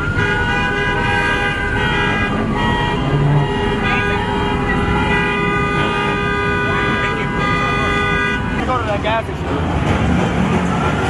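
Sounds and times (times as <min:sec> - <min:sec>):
car horns honking: 0:00.0 - 0:09.3
crowd noise: 0:00.0 - 0:11.0
engines idling: 0:00.0 - 0:11.0.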